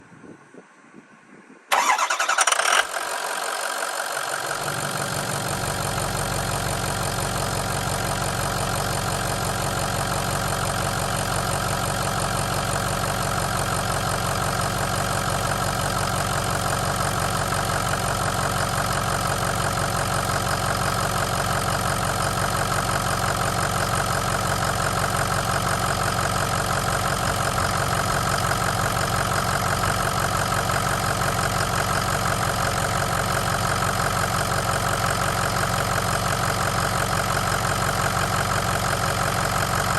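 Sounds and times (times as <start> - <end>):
pickup engine starting and idling: 1.7 - 39.9.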